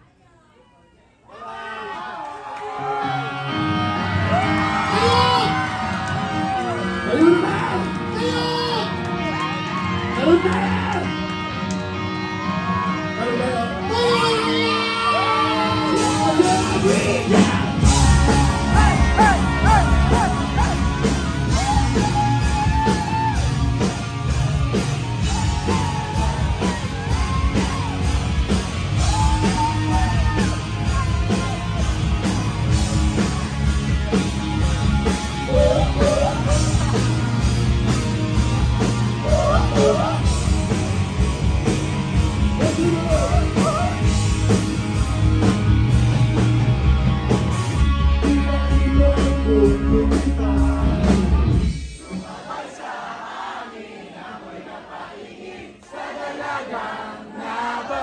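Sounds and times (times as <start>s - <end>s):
rock band playing live: 3.0s - 52.4s.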